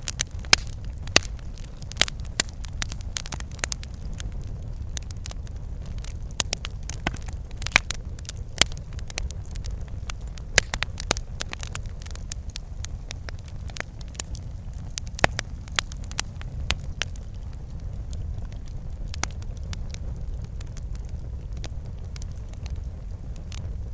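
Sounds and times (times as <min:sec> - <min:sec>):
fire crackling and popping: 0:00.0 - 0:23.9
low rumble of flame: 0:00.0 - 0:23.9.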